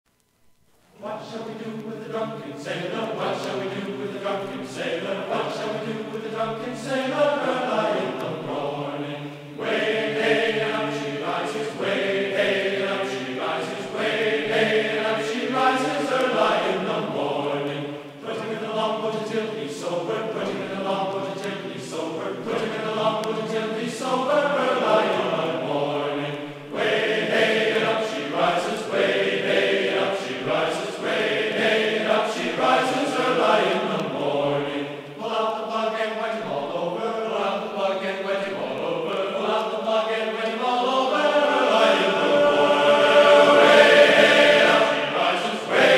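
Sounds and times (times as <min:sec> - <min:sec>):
choir singing a slow chant: 0:00.9 - 0:45.9.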